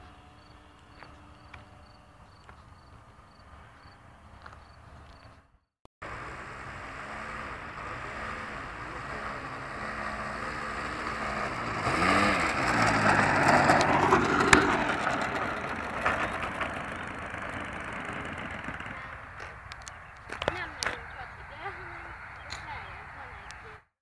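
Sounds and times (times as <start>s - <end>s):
model airplane motor humming: 0.0s - 5.1s, 6.0s - 23.8s.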